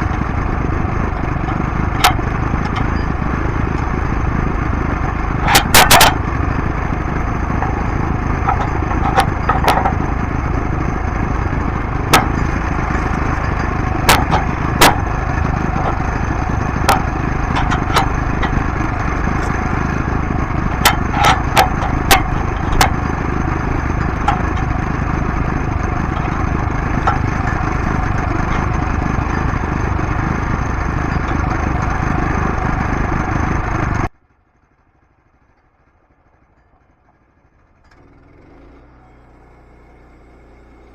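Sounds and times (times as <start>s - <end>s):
bandsaw mill whining: 0.0s - 34.1s.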